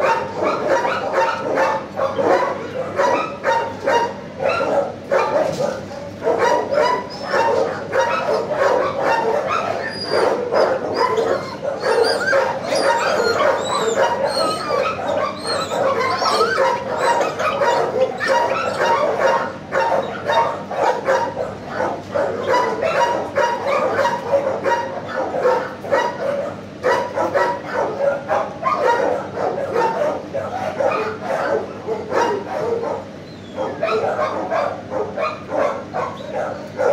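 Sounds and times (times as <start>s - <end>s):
dogs yipping and whining: 0.0s - 36.9s
many dogs barking: 0.0s - 36.9s.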